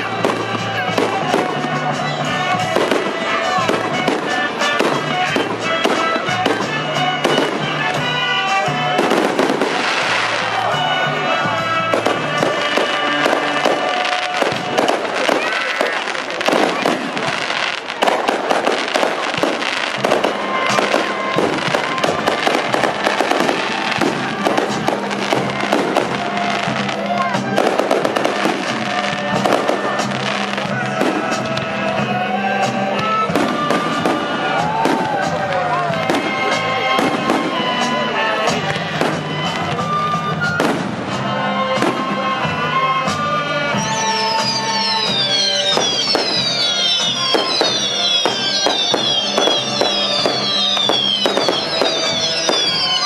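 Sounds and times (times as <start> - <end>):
fireworks bursting: 0.0 - 53.0
music playing: 0.0 - 53.0.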